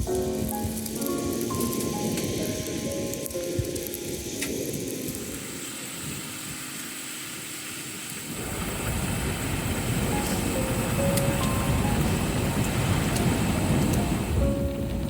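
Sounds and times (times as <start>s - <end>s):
strong wind rushing: 0.0s - 6.7s, 8.2s - 15.0s
rain: 0.0s - 15.0s
soft background music: 0.0s - 15.0s.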